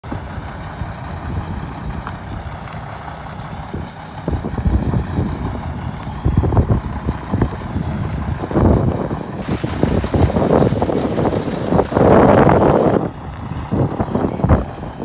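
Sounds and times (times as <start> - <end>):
diesel truck engine rumbling: 0.0 - 15.0
wind buffeting microphone: 0.0 - 15.0.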